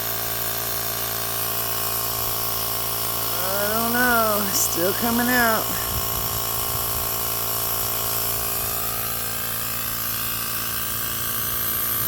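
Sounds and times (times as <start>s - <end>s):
small motor running: 0.0s - 12.0s.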